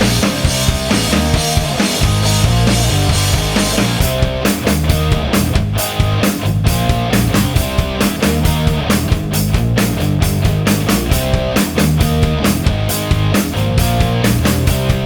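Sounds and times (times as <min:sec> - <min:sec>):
driving drum beat: 0:00.0 - 0:15.0
rock guitar: 0:00.0 - 0:15.0.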